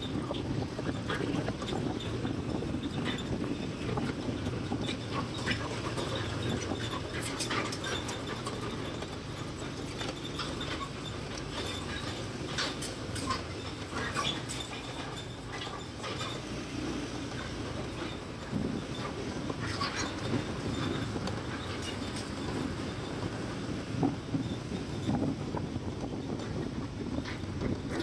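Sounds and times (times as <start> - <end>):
low road traffic rumble: 0.0 - 28.0.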